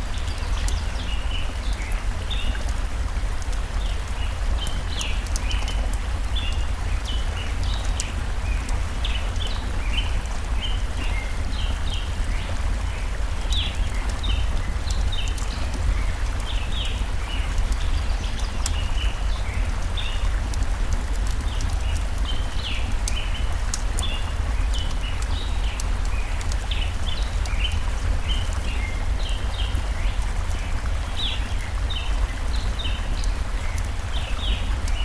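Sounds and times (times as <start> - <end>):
campfire crackling and popping: 0.0 - 35.0
small birds chirping: 0.0 - 35.0
stream flowing: 0.0 - 35.0.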